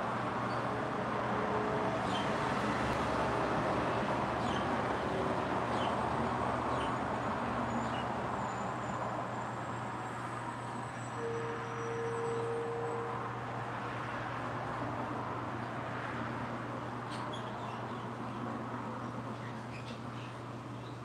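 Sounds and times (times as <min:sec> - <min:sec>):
distant traffic rush: 0:00.0 - 0:21.0.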